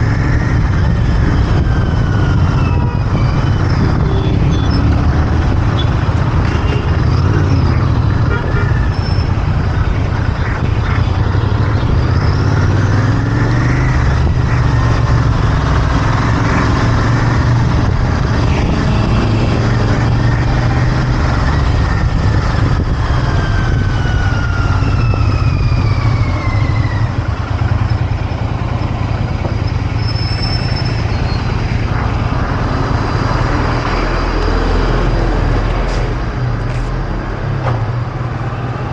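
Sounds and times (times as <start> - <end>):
motorcycle engine and exhaust: 0.0 - 38.9
road traffic: 0.0 - 38.9.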